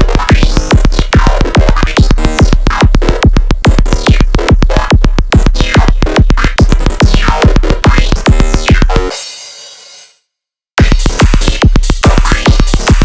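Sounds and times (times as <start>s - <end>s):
fast drum machine beat: 0.0s - 9.5s, 10.8s - 13.0s
heavy bass: 0.0s - 9.7s, 10.8s - 13.0s.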